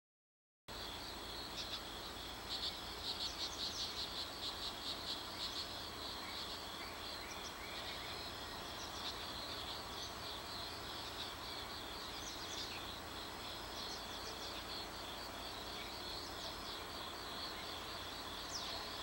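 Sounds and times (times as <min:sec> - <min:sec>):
insects buzzing: 0:00.7 - 0:19.0.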